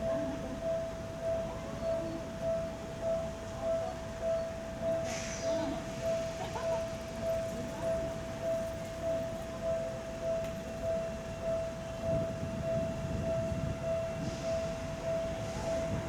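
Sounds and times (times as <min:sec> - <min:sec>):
level crossing warning bell: 0:00.0 - 0:16.0
train rumbling: 0:00.0 - 0:16.0.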